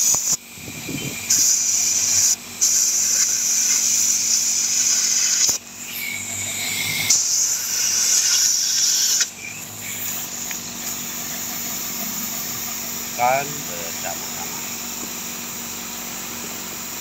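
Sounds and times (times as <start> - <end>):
compressed air hissing: 0.0 - 17.0.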